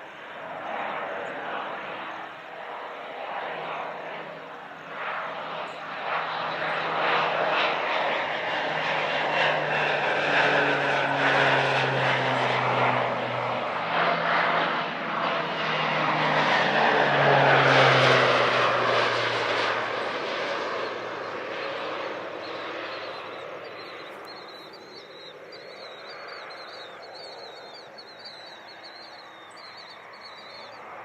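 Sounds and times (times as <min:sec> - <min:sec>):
propeller airplane engine droning: 0:00.0 - 0:31.0.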